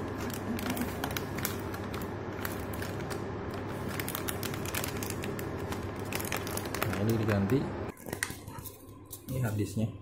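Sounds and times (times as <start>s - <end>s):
foil bag crinkling: 0.0s - 8.9s.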